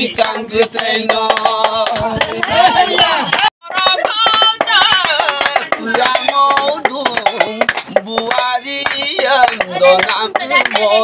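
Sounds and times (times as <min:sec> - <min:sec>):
man singing folk song: 0:00.0 - 0:11.0
rhythmic hand clapping: 0:00.0 - 0:11.0.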